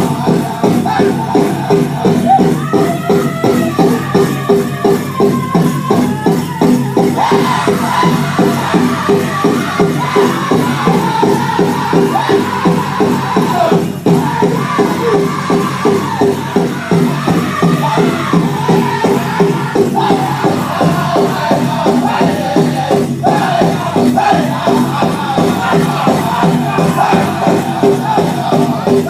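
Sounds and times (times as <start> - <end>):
group singing high: 0.0 - 5.7, 6.8 - 29.0
big drum steady beat: 0.0 - 29.0.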